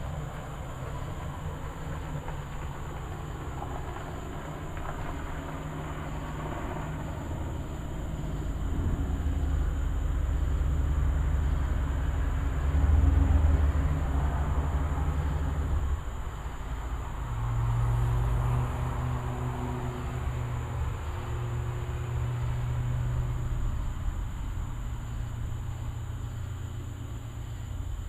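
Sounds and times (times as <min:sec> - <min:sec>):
distant thunder rumbling: 0:00.0 - 0:27.1.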